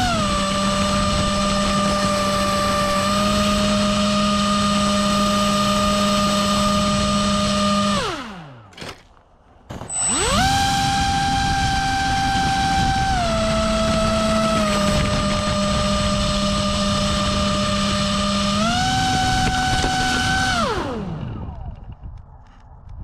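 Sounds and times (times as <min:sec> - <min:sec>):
propeller motor whining: 0:00.0 - 0:08.8, 0:09.7 - 0:22.7.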